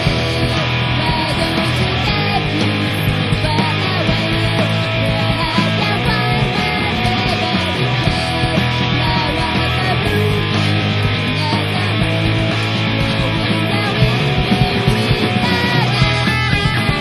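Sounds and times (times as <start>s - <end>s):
pop-punk band song: 0.0s - 17.0s.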